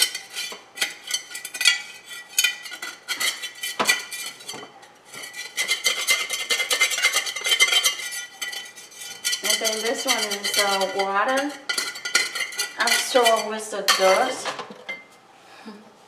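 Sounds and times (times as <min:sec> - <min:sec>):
hard object scraping hard surface: 0:00.0 - 0:13.4.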